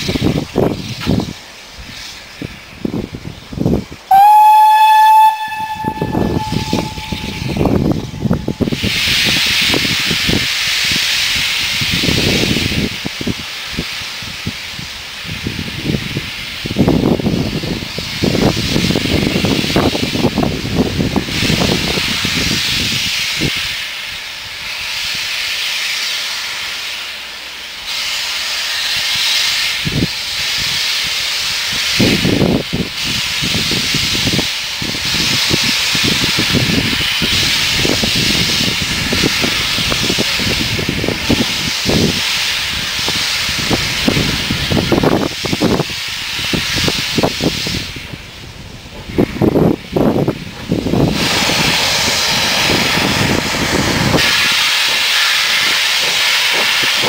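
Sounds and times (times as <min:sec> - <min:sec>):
locomotive steam hissing: 0:00.0 - 0:57.0.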